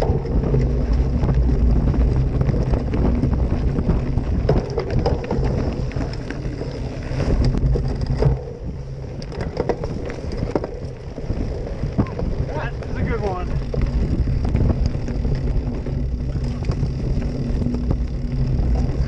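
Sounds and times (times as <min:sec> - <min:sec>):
bike clicking and rattling: 0:00.0 - 0:19.0
mountain bike rolling over dirt: 0:00.0 - 0:19.0
wind buffeting microphone: 0:00.0 - 0:19.0.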